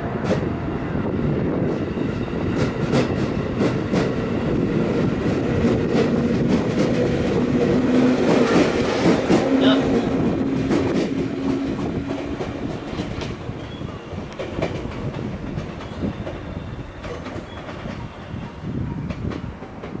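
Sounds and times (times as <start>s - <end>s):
train wheels clicking over rail joints: 1.6s - 20.0s.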